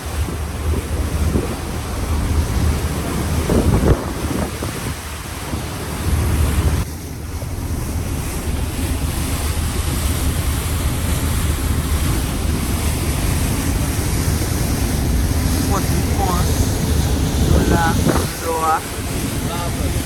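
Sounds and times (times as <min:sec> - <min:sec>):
boat low rumble: 0:00.0 - 0:20.0
sea water rushing: 0:00.0 - 0:20.0
wind buffeting microphone: 0:00.0 - 0:20.0.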